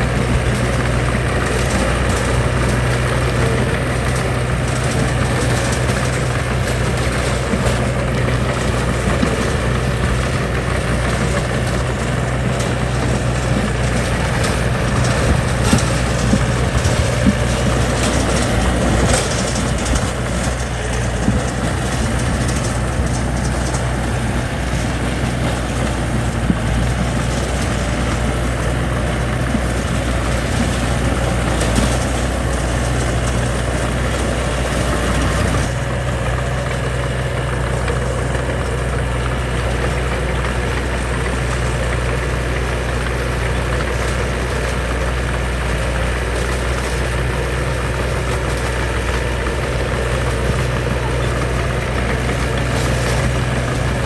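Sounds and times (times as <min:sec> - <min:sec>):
heavy machine engine running: 0:00.0 - 0:54.0.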